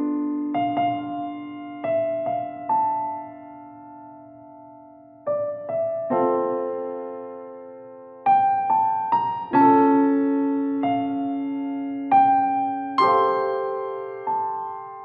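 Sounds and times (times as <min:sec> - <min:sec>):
gentle solo piano piece: 0:00.0 - 0:15.0.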